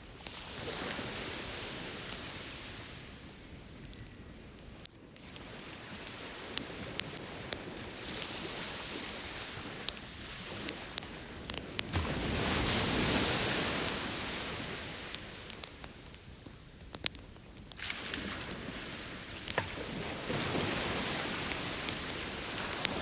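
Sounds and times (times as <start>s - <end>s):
campfire crackling: 0.0s - 23.0s
ocean surf washing on shore: 0.0s - 23.0s.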